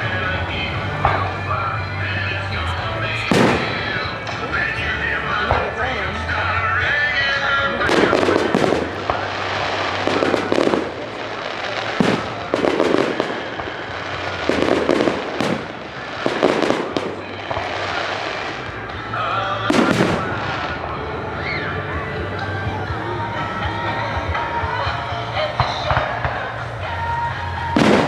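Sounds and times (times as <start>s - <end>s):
fireworks bangs: 0.0s - 6.5s, 7.1s - 21.3s, 25.4s - 28.0s.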